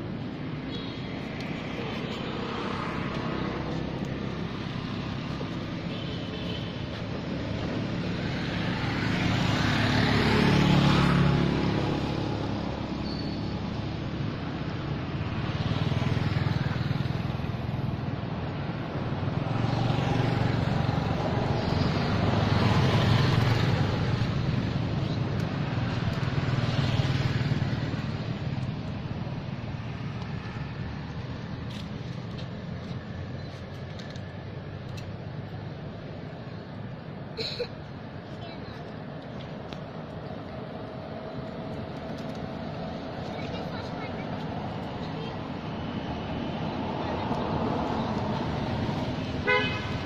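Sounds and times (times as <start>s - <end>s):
vehicles passing: 0.0s - 50.0s.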